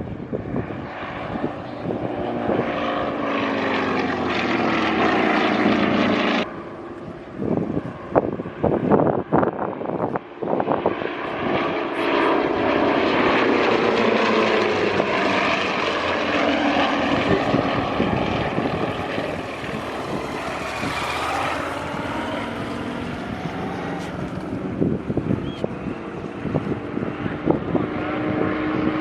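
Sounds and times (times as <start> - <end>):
propeller airplane engine: 0.0 - 29.0.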